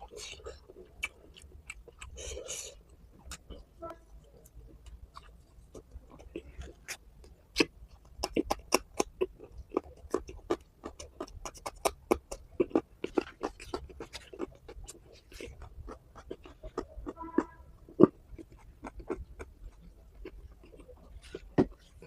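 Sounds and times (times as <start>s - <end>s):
person chewing and lip smacking: 0.0s - 22.0s.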